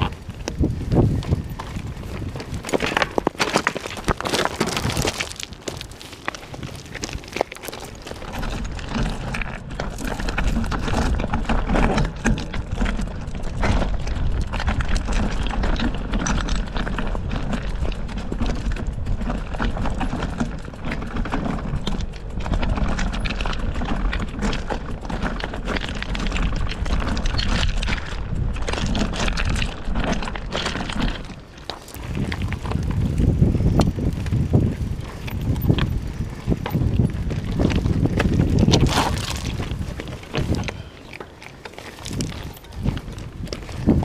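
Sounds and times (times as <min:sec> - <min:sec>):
bike rattling: 0:00.0 - 0:44.0
bike tyres crunching on stones: 0:00.0 - 0:44.0
steady low rumble: 0:00.0 - 0:44.0.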